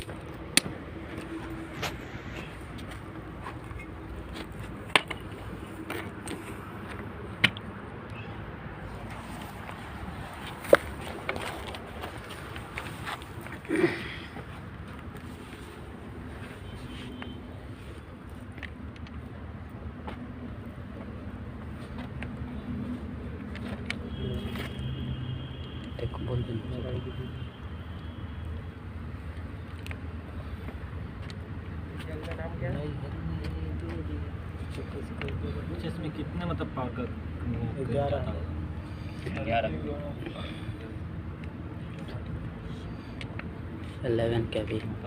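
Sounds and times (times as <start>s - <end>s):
steady background noise: 0.0s - 45.0s.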